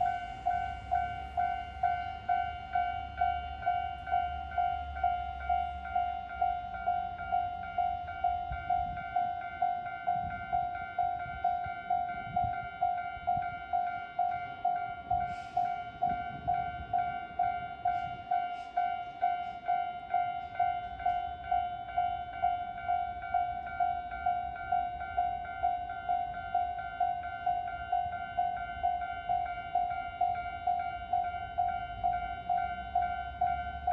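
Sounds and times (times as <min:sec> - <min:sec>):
crossing alarm bell ringing: 0:00.0 - 0:33.9
train rumbling: 0:00.0 - 0:33.9.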